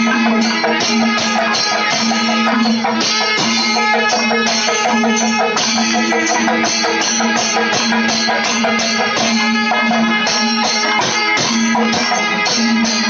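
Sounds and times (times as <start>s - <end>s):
drums and cymbals in fast rhythm: 0.0s - 13.0s.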